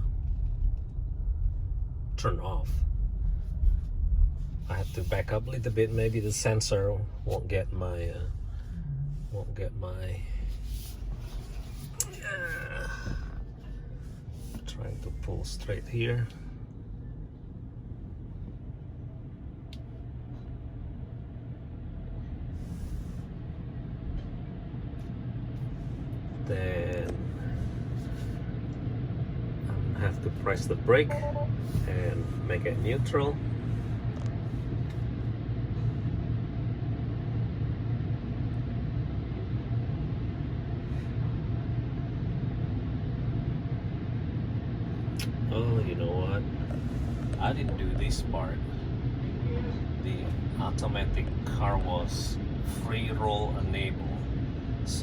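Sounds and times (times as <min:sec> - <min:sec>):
car wash machinery rumble: 0:00.0 - 0:55.0.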